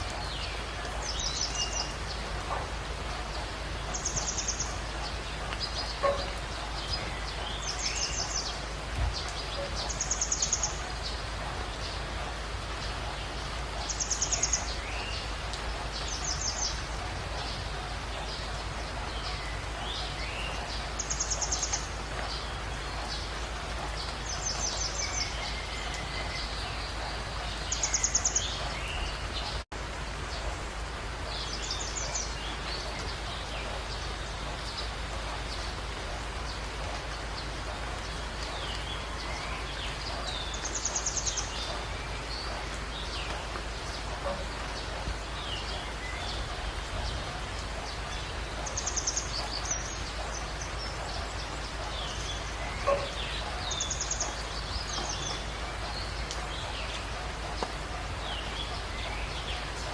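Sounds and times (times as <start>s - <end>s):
birds calling: 0.0s - 59.9s
rain hiss: 0.0s - 59.9s.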